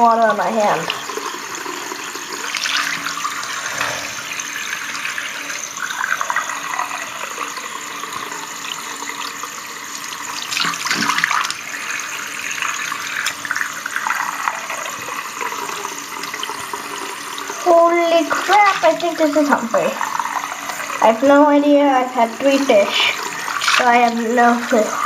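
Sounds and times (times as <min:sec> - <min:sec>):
water running from tap: 0:00.0 - 0:25.0.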